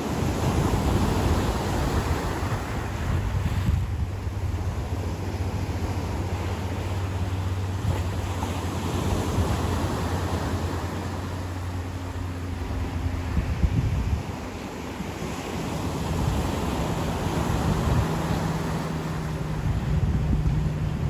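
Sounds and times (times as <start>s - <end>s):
surf washing onto beach: 0.0s - 21.0s
low steady rumble: 0.5s - 21.0s.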